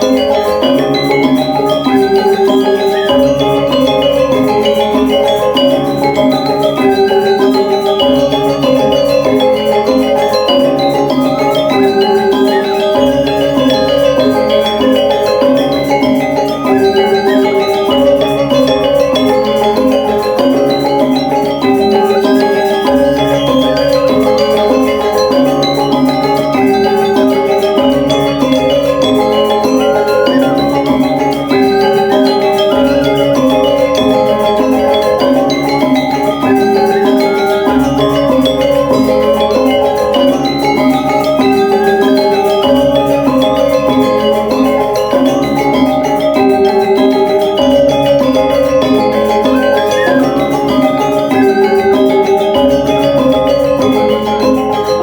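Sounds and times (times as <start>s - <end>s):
metallophones playing melody: 0.0s - 55.0s.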